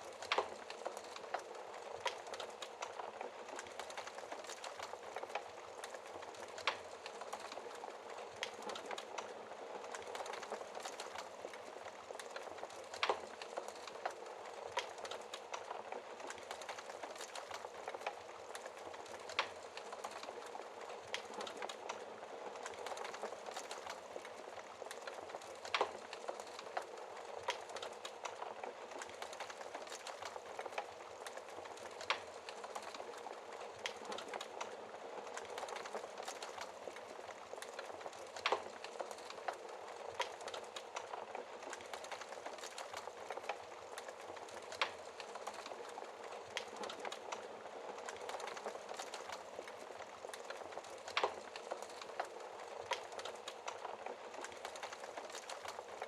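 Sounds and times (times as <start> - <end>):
fire popping: 0.0 - 56.0
logs crackling in fireplace: 0.0 - 56.0.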